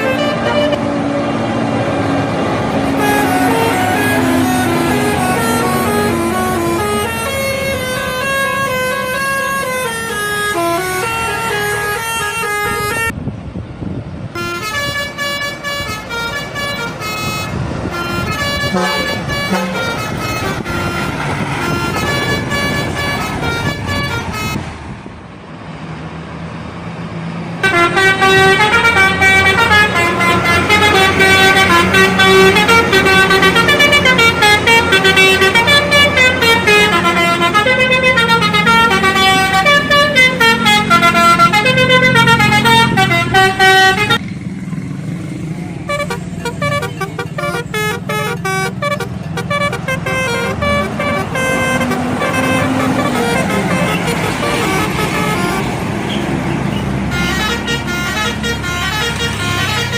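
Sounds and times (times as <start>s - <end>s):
multi-note air horn melody: 0.0s - 1.2s, 2.6s - 13.1s, 14.4s - 24.6s, 27.6s - 44.2s, 45.8s - 56.2s, 57.1s - 59.9s
bus engine: 0.0s - 59.9s
road noise: 0.0s - 59.9s.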